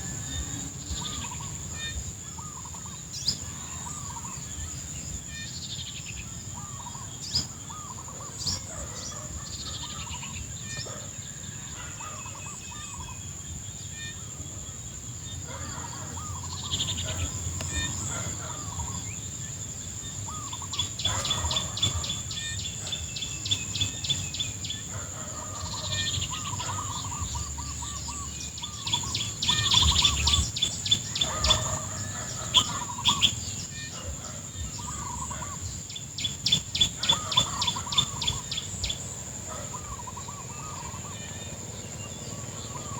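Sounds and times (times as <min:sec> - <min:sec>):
birds calling: 0:00.0 - 0:42.9.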